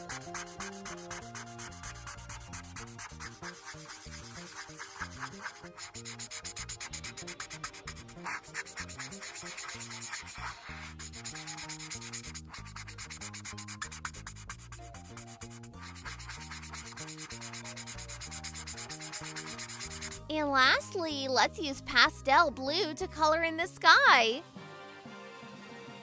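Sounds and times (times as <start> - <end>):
marker scribbling on paper: 0.0 - 24.4.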